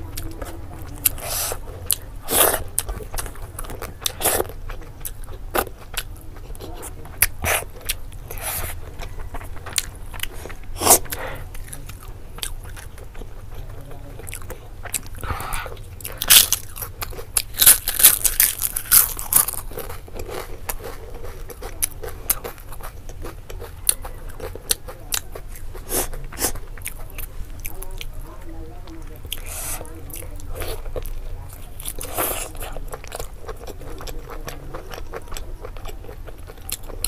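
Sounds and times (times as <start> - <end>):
person chewing: 0.0 - 28.2, 28.8 - 37.0.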